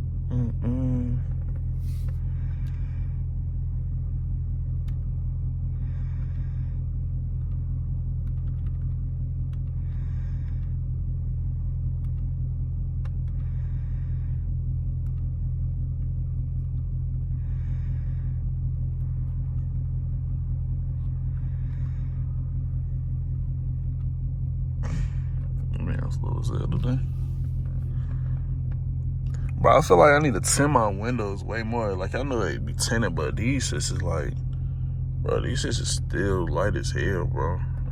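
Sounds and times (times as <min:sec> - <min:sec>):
car engine low rumble: 0:00.0 - 0:37.9.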